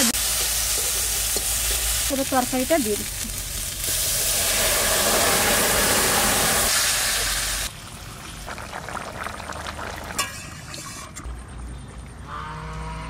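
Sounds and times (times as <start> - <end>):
hot oil hissing and sizzling: 0.0 - 11.0.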